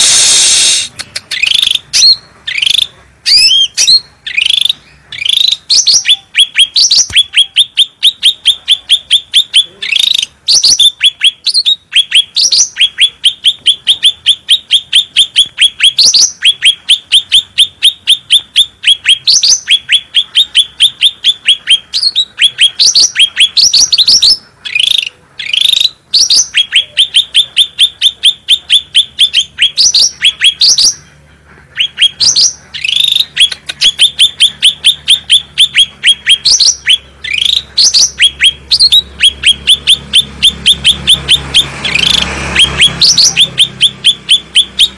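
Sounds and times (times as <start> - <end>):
bird singing fast chirps: 0.0 - 44.9.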